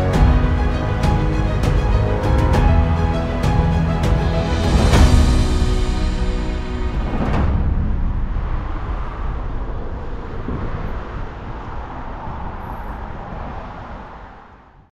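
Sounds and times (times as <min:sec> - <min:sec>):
road traffic rumble: 0:00.0 - 0:14.9
street noise: 0:00.0 - 0:14.9.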